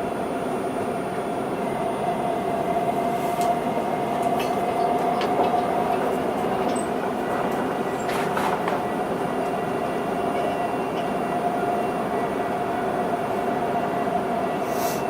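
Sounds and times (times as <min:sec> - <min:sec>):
train interior hum with held tone: 0:00.0 - 0:15.0.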